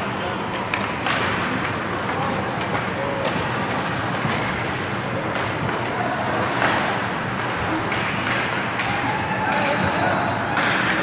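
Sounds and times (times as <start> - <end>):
hockey sticks and puck clacking: 0.5 - 4.4, 5.2 - 11.0.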